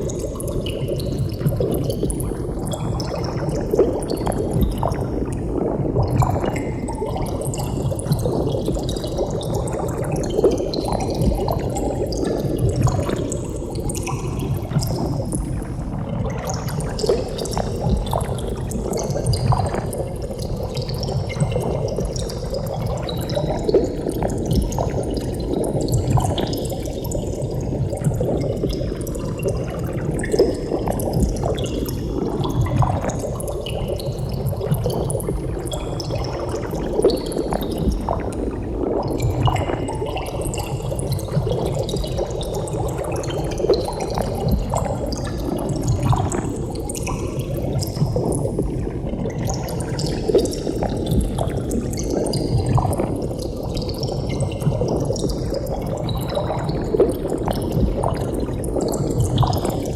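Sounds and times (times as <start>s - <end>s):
water bubbling and gurgling: 0.0s - 59.9s.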